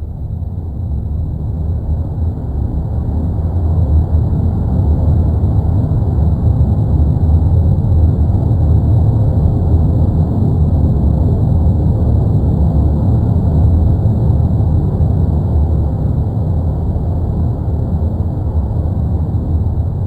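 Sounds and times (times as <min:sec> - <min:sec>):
volcano deep rumble: 0:00.0 - 0:20.0.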